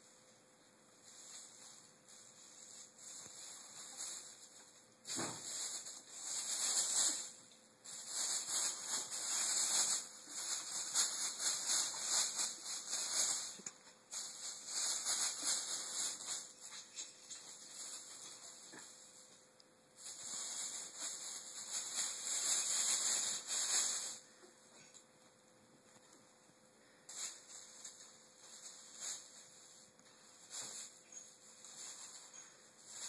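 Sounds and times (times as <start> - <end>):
plastic bag crinkling and rustling: 1.0 - 19.4, 20.0 - 25.1, 26.9 - 33.0.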